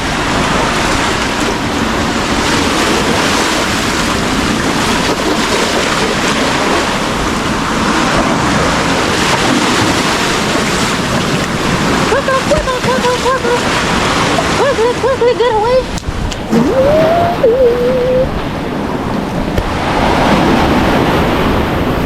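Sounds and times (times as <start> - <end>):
ocean waves breaking on rocks: 0.0 - 22.0
wind buffeting microphone: 0.0 - 22.0.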